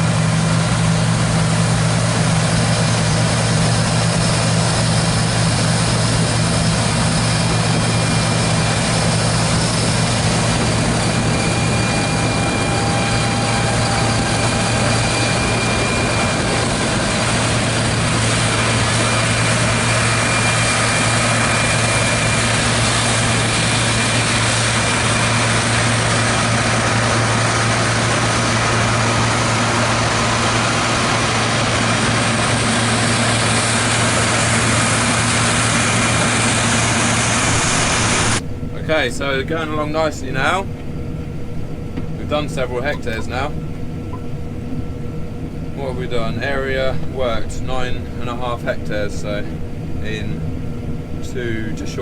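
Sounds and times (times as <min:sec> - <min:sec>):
combine harvester drone: 0:00.0 - 0:52.0
faint whining tones: 0:00.6 - 0:29.8, 0:37.5 - 0:52.0.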